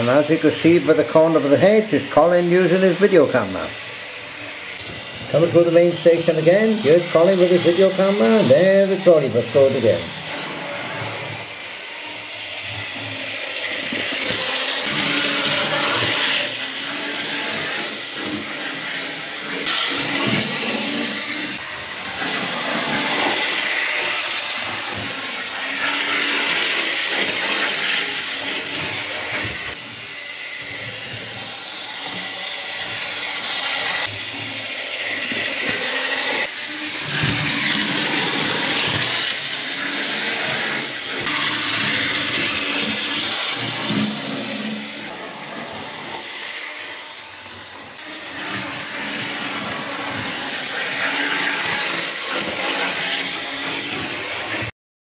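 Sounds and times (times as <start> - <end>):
model trains running on track: 0.0 - 4.2, 5.2 - 47.4, 50.2 - 54.5.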